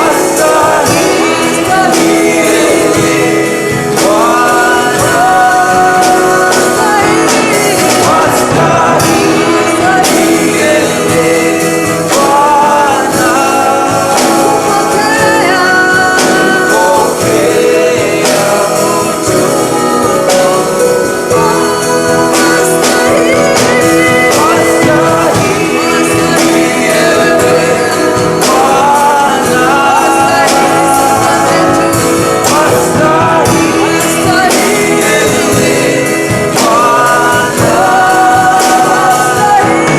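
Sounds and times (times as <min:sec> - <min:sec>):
instrumental backing with percussion: 0:00.0 - 0:39.9
voices singing gospel song: 0:00.0 - 0:39.9.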